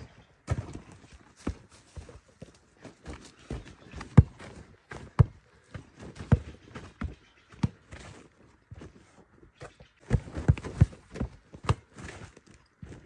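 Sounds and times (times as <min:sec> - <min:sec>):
footsteps scuffing on dirt: 0:00.0 - 0:13.0
basketball bouncing on dirt: 0:00.1 - 0:09.0, 0:09.6 - 0:13.0.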